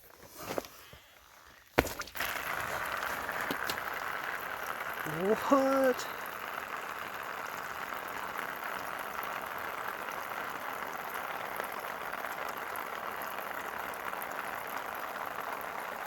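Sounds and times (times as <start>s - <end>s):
water gushing from hole: 0.8s - 16.0s.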